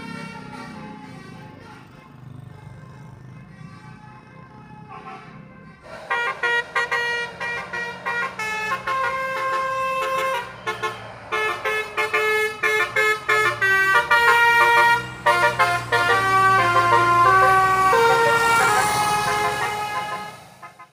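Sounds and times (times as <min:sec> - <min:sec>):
bus diesel engine rumble: 0:00.0 - 0:20.9
multi-tone bus horn melody: 0:00.0 - 0:20.9.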